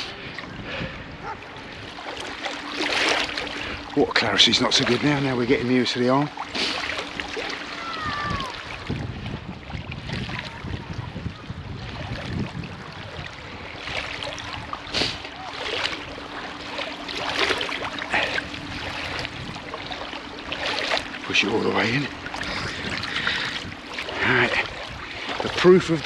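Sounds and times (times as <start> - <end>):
seawater swishing and sloshing: 0.0 - 26.0.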